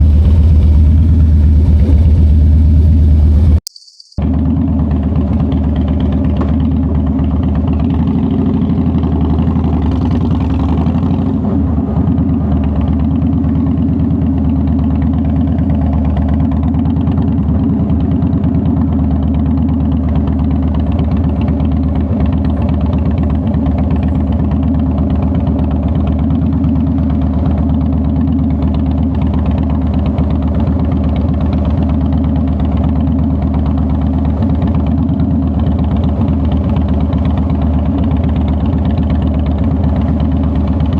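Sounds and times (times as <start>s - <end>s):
motorcycle engine idling: 0.0s - 3.6s, 4.2s - 40.9s.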